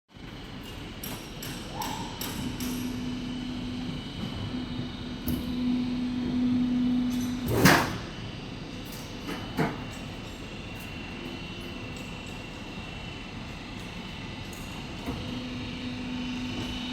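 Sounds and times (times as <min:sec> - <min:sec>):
machine motor hum: 0:00.2 - 0:16.9.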